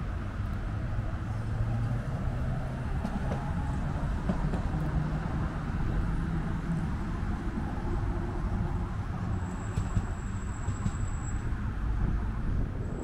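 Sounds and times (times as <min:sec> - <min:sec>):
tram running with low hum: 0:00.0 - 0:13.0.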